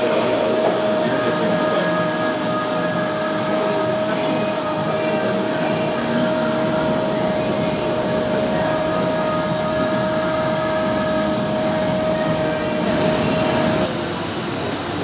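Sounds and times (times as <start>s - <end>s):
constant background noise: 0.0s - 15.0s
model train motor whine: 0.0s - 15.0s.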